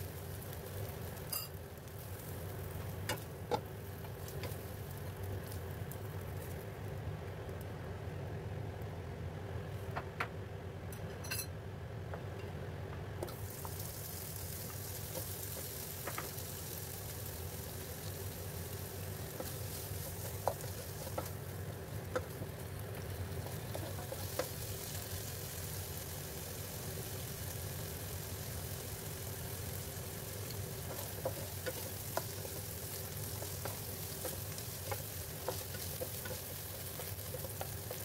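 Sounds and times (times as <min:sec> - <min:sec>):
shrimp sizzling in a frying pan: 0:00.0 - 0:07.6, 0:13.2 - 0:38.0.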